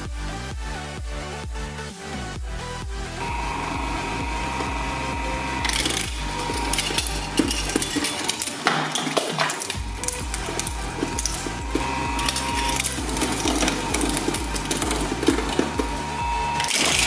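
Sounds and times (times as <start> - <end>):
electronic dance music: 0.0 - 17.0
shredder crunching metal toy cars: 3.2 - 17.0.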